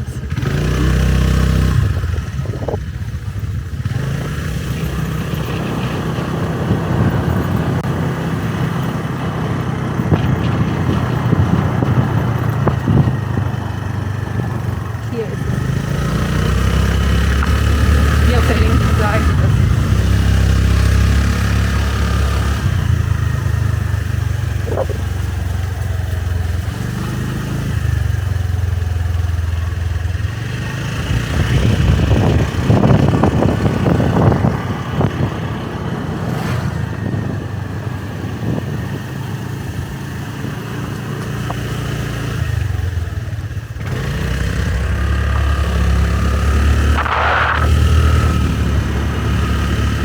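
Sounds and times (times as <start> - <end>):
motorbike engine revving: 0.0 - 50.0.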